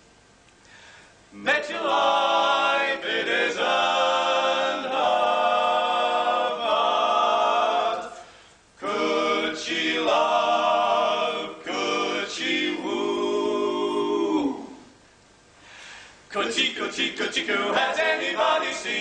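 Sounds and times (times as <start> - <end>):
men singing in close harmony: 1.4 - 8.2, 8.8 - 14.8, 16.3 - 19.0.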